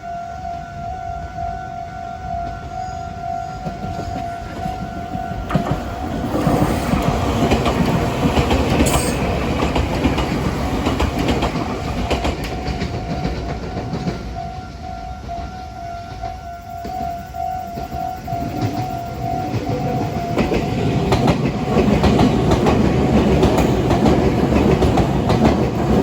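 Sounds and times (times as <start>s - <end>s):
level-crossing warning bell: 0.0s - 26.0s
train rumble and wheel clatter: 0.0s - 26.0s.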